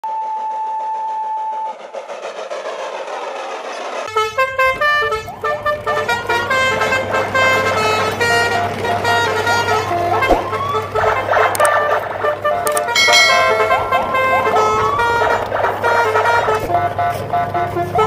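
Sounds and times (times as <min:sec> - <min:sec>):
steam locomotive whistle: 0:00.0 - 0:02.1, 0:04.0 - 0:18.0
train running: 0:00.0 - 0:18.0.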